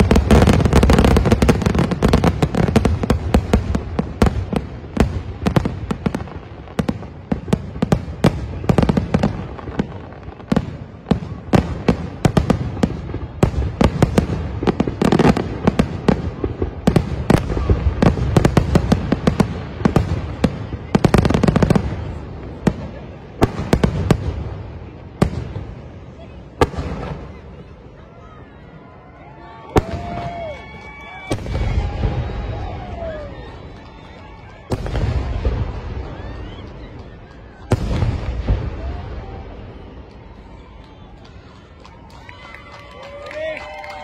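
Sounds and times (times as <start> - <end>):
fireworks bangs and cracks: 0.0 - 28.3, 29.3 - 44.0
continuous fireworks rumble: 0.0 - 44.0.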